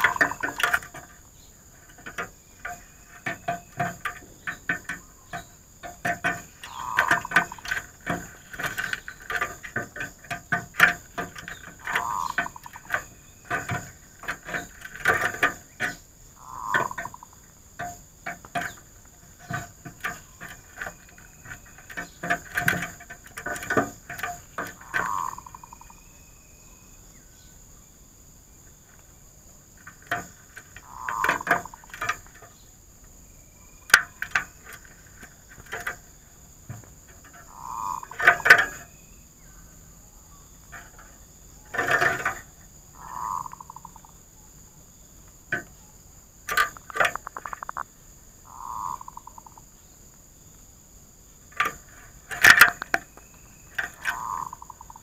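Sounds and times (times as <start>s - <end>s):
doves calling: 0.0s - 55.0s
insect drone: 0.0s - 55.0s.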